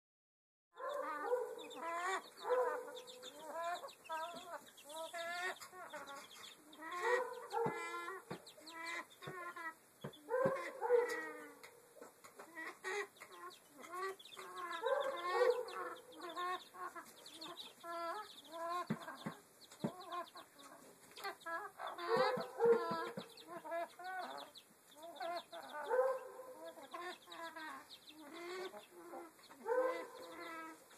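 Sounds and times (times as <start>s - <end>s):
chickens clucking and calling: 0.8s - 30.9s.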